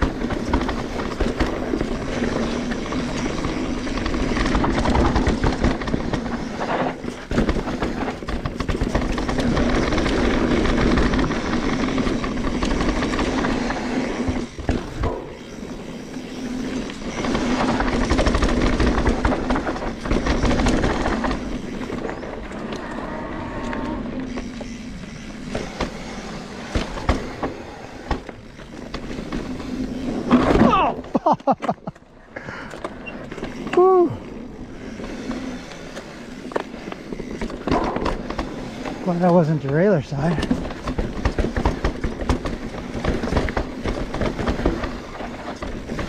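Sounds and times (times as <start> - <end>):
bike rattling over bumps: 0.0 - 46.0
bike tyres rumbling over dirt: 0.0 - 46.0.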